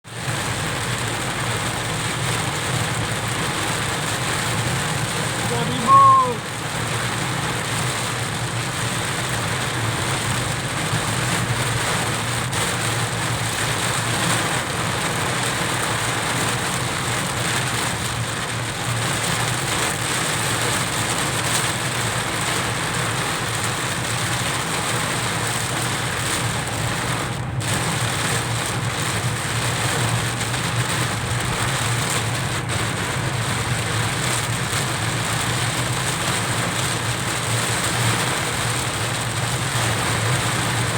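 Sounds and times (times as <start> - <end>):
car engine and road noise: 0.0 - 40.9
heavy rain on a car: 0.0 - 40.9.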